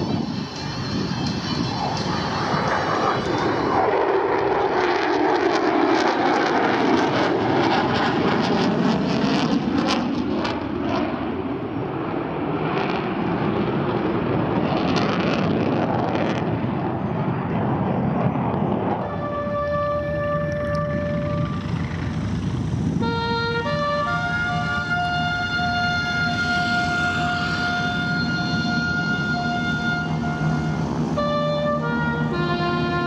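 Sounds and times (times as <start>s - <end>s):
airplane flying past: 0.0s - 33.0s.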